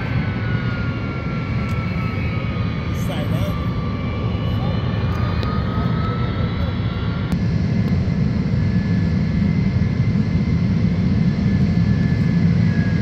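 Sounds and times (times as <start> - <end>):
high turbine whine: 0.0 - 13.0
jet engines rumbling: 0.0 - 13.0.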